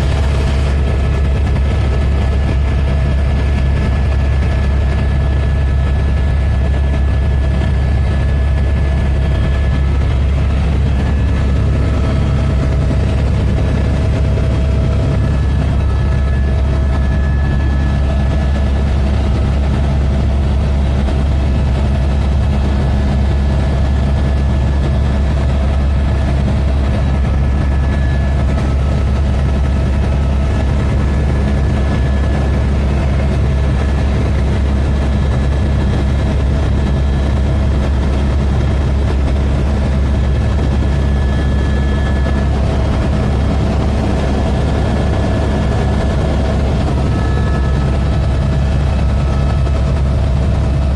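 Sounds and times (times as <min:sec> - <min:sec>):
helicopter running: 0:00.0 - 0:50.9.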